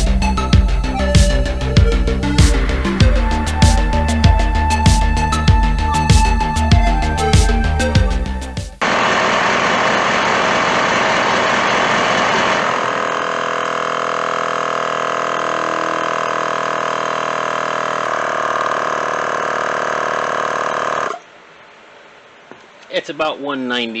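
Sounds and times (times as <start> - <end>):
air compressor running: 0.0 - 21.2.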